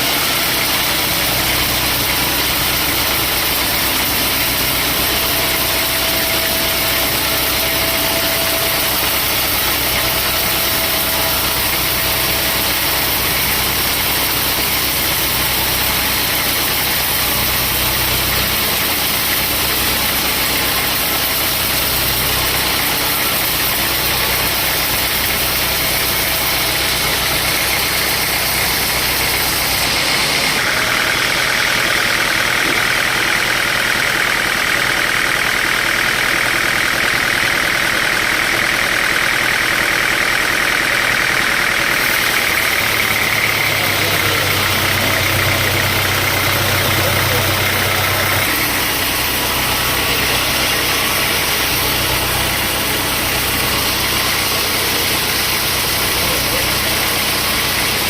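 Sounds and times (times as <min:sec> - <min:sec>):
saw hissing: 0:00.0 - 0:31.2, 0:41.8 - 0:58.0.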